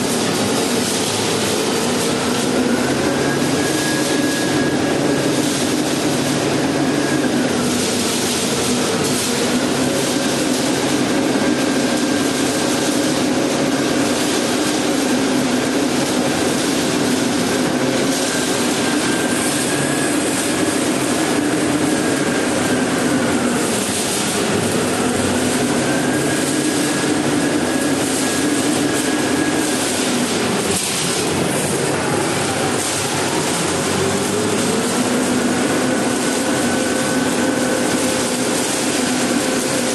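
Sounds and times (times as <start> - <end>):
concrete mixer engine running: 0.0 - 39.9
high-pitched whine: 0.0 - 39.9.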